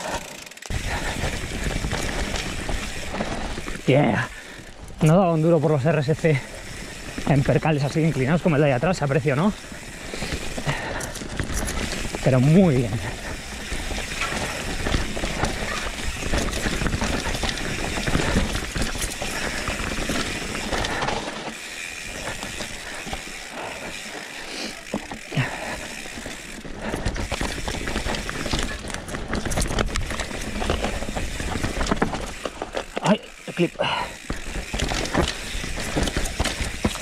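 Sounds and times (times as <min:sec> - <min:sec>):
bike clattering and rattling: 0:00.0 - 0:37.0
bike tyres on dirt: 0:00.0 - 0:37.0.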